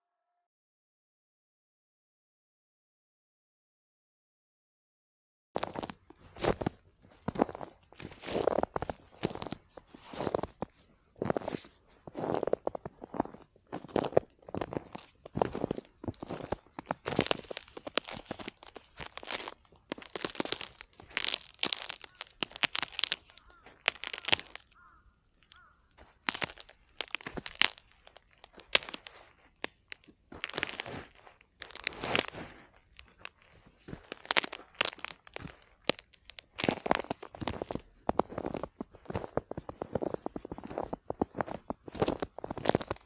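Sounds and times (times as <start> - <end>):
footsteps crunching through snow: 5.6 - 43.0.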